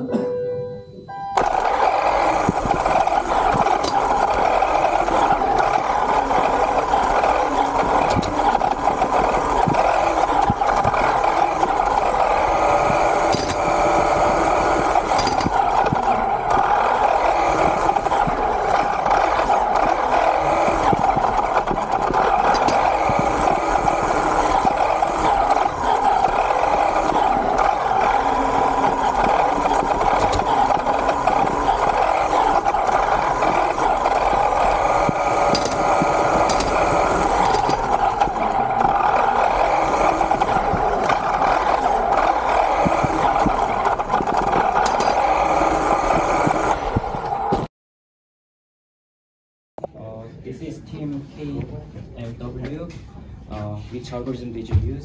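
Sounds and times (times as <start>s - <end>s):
electric motor whine with rattle: 1.4s - 47.7s.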